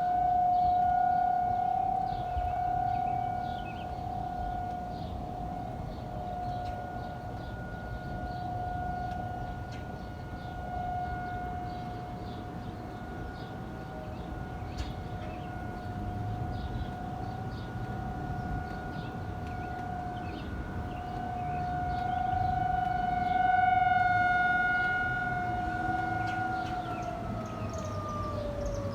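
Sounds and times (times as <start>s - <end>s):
warning siren steady tone: 0.0s - 28.9s.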